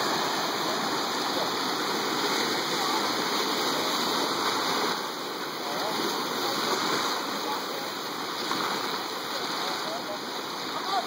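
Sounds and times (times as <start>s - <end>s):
ocean waves washing in: 0.0s - 11.0s.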